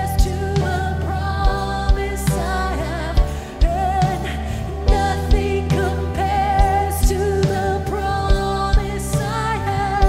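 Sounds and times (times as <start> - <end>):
bass guitar: 0.0 - 10.0
woman singing: 0.0 - 10.0.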